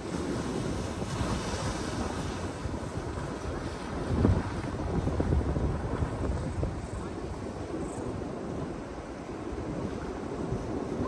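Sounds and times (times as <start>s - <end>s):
ocean surf breaking on rocks: 0.0s - 11.0s
wind buffeting microphone: 0.0s - 11.0s.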